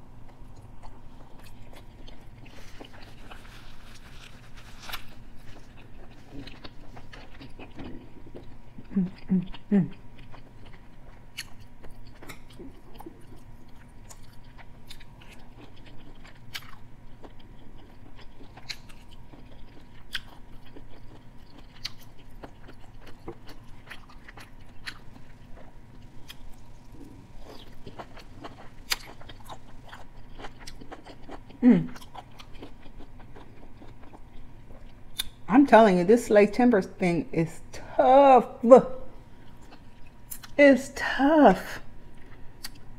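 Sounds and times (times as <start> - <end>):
chewing food: 0.2 - 35.5, 39.3 - 40.6, 42.0 - 42.9.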